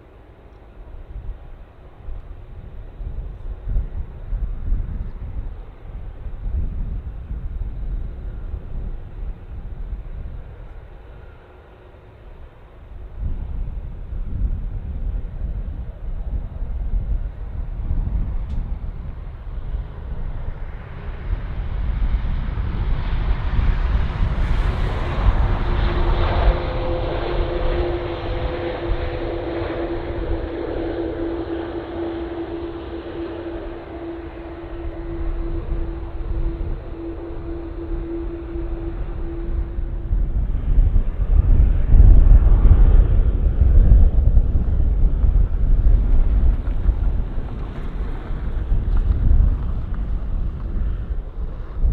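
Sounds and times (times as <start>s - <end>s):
jet engines rumbling with hiss: 0.0s - 51.9s
wind buffeting microphone: 0.0s - 51.9s.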